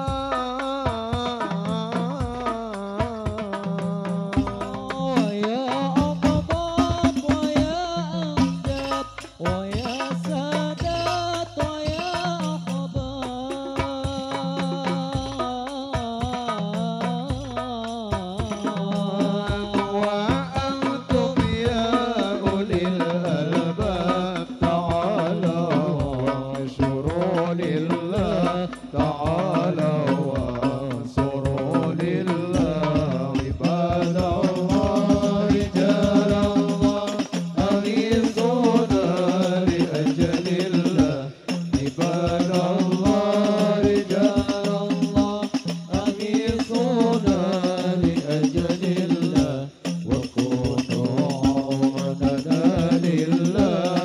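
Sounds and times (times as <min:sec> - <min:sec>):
frame drums beating: 0:00.0 - 0:54.0
men singing into microphones: 0:00.0 - 0:54.0.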